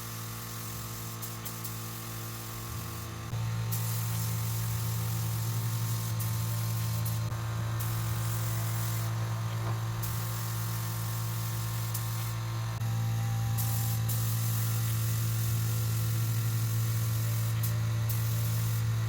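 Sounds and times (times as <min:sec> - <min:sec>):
spray gun hissing: 0:00.0 - 0:09.3, 0:10.0 - 0:12.5, 0:13.6 - 0:19.0
air compressor humming: 0:00.0 - 0:19.0.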